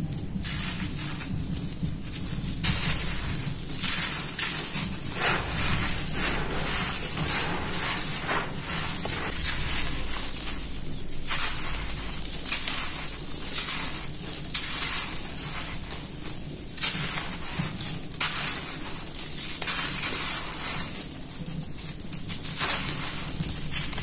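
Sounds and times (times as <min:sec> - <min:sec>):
crumbs falling on cement floor: 0:00.0 - 0:24.0.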